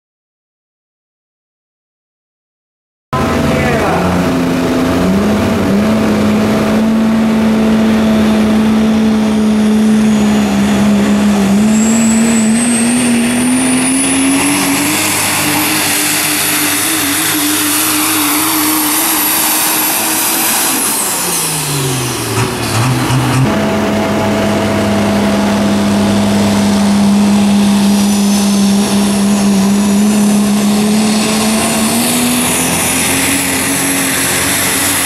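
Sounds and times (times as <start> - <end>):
diesel engine drone: 3.1 - 35.0
turbocharger whistle: 3.3 - 35.0.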